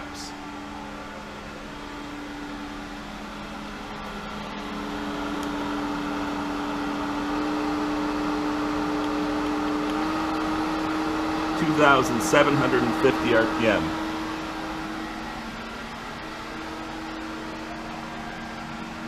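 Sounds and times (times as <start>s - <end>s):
pool pump motor hum: 0.0s - 19.0s.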